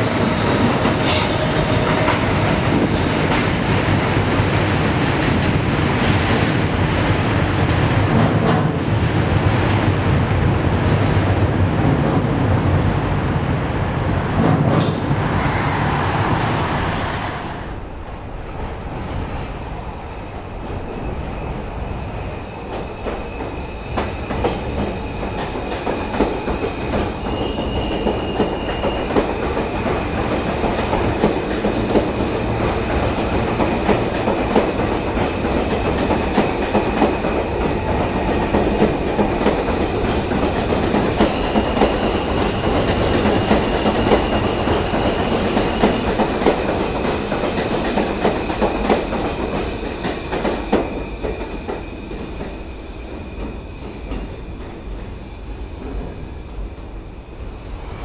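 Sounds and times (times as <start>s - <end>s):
subway train rumbling past: 0.0s - 58.0s.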